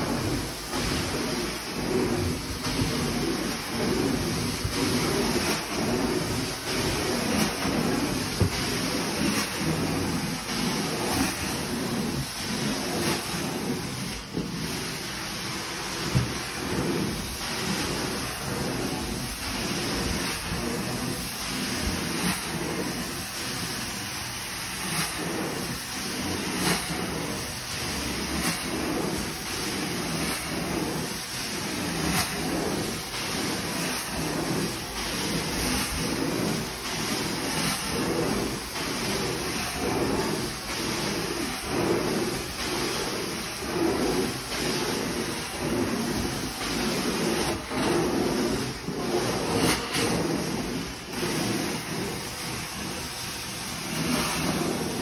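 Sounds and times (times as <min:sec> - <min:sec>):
vacuum sucking water through hose: 0:00.0 - 0:55.0.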